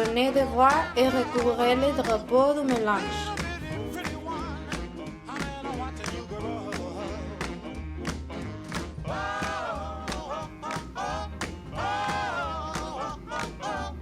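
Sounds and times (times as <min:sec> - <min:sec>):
song with singing voice: 0:00.0 - 0:14.0
drum beat and bass: 0:01.4 - 0:14.0.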